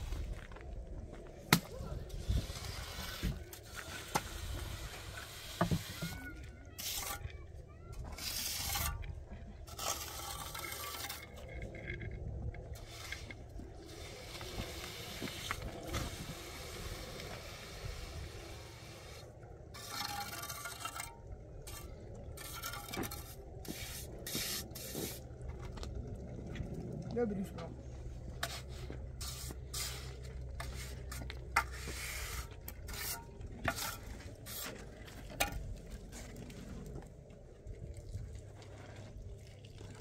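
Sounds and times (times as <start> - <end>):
steady low rumble: 0.0 - 5.3, 7.3 - 19.8, 20.5 - 40.0.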